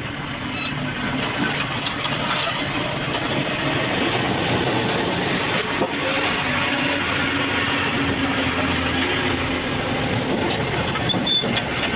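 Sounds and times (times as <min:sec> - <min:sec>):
excavator engine working: 0:00.0 - 0:11.9.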